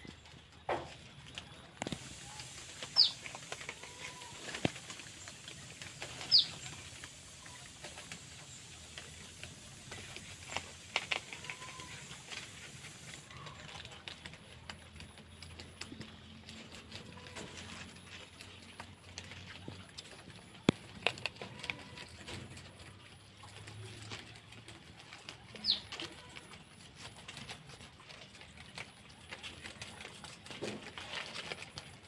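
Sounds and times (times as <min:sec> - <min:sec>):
animals chewing leaves: 0:00.0 - 0:32.0.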